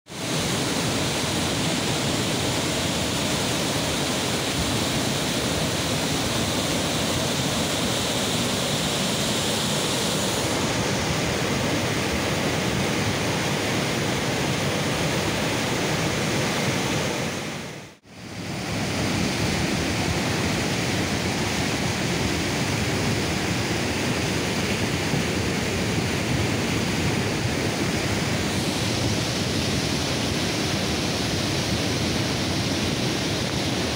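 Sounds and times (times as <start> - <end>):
floodwater rushing: 0.1 - 33.9.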